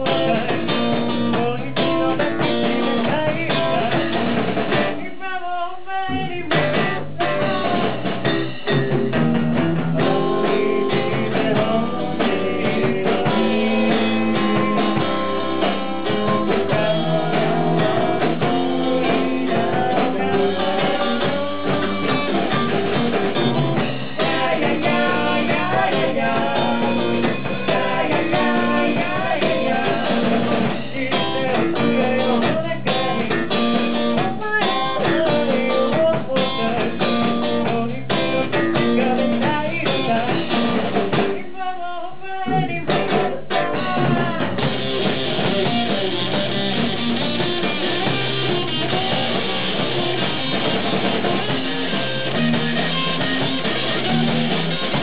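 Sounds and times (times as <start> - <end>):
rock band playing: 0.0 - 5.0, 6.1 - 41.4, 42.5 - 55.0
lead vocals singing: 0.0 - 8.4, 9.8 - 46.3
electric guitar: 0.0 - 55.0.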